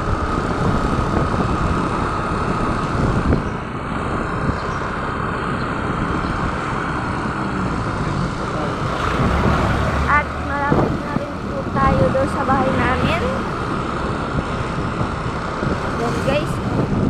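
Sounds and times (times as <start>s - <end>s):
motorcycle engine running: 0.0s - 17.0s
road rumble: 0.0s - 17.0s.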